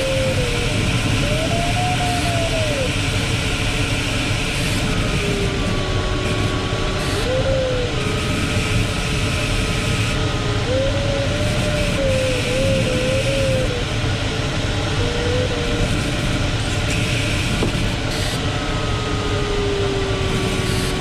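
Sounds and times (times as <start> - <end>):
airflow rushing in cockpit: 0.0 - 21.0.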